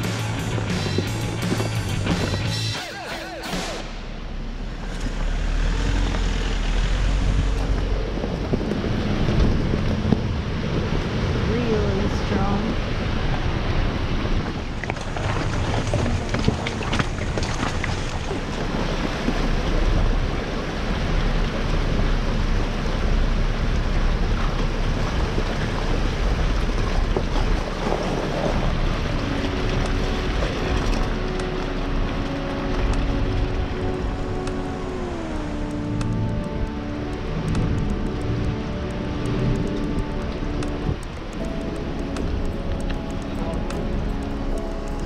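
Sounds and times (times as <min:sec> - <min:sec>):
vehicle driving on gravel: 0:00.0 - 0:02.7, 0:03.9 - 0:45.0
steady music tones: 0:00.0 - 0:14.8, 0:18.4 - 0:45.0
wind buffeting microphone: 0:05.9 - 0:45.0.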